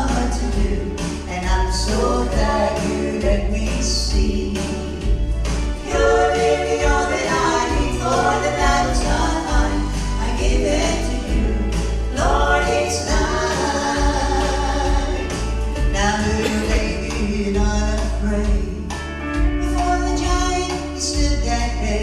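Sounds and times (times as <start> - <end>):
voices singing in harmony: 0.0 - 18.1
instrumental accompaniment with bass: 0.0 - 22.0.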